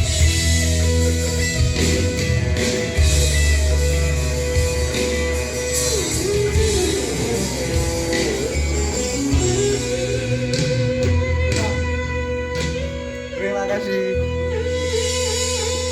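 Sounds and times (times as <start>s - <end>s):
guitar melodic line: 0.0s - 15.9s.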